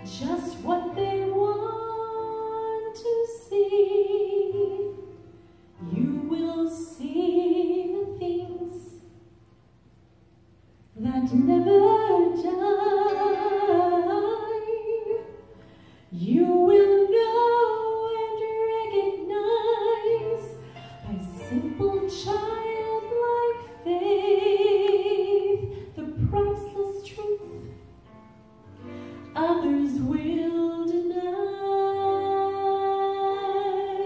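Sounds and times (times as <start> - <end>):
woman singing slow song: 0.0 - 5.1, 5.8 - 9.1, 11.0 - 15.4, 16.1 - 27.8, 29.4 - 34.0.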